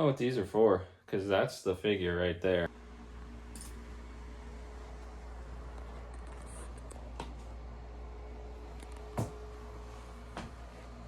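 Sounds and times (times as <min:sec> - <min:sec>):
steady low hum: 0:00.2 - 0:11.0.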